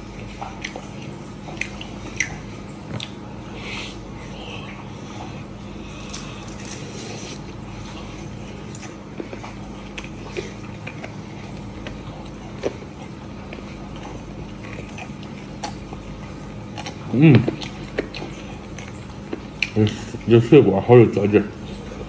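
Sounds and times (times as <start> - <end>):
chewing and tearing meat: 0.0 - 22.0
steady low hum: 0.0 - 22.0.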